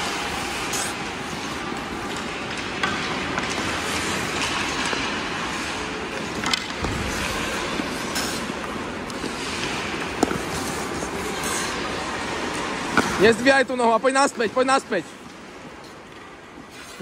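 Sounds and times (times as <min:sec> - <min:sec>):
skates scraping on ice: 0:00.0 - 0:15.1, 0:16.6 - 0:17.0.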